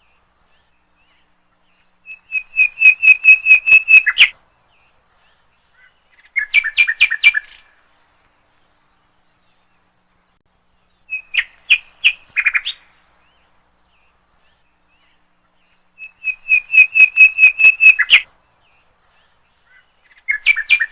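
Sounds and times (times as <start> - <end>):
bird chirping trill: 0.0 - 7.8, 8.6 - 20.9.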